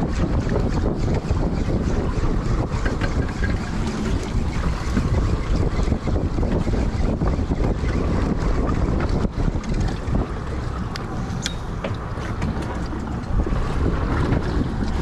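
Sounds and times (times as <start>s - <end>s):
choppy sea washing: 0.0s - 15.0s
wind buffeting microphone: 0.0s - 15.0s.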